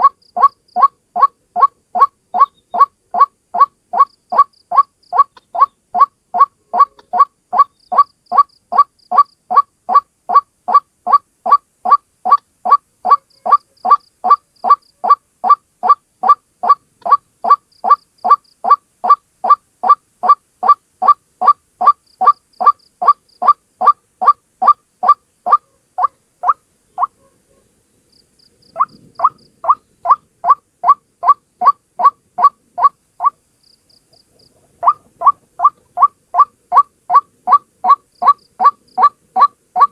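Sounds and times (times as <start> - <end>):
waterhen calling: 0.0 - 27.3, 28.6 - 33.4, 34.1 - 39.9.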